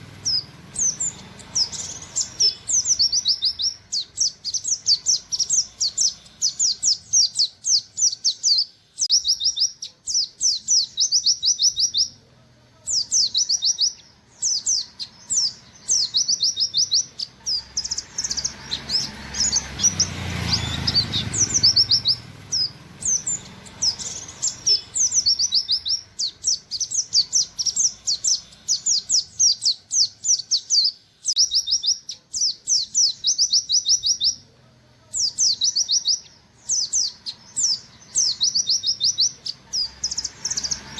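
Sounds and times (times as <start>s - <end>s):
bird singing rapid high notes: 0.0s - 12.2s, 12.8s - 34.5s.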